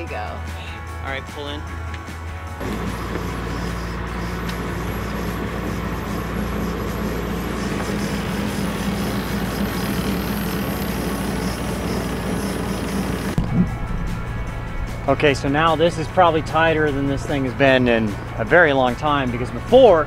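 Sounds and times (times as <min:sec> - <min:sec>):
motor running steadily: 0:02.5 - 0:20.0.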